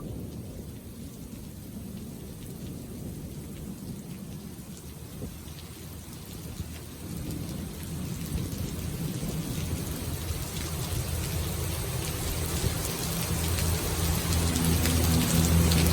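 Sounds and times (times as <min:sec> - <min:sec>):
rain falling: 0:00.0 - 0:15.9.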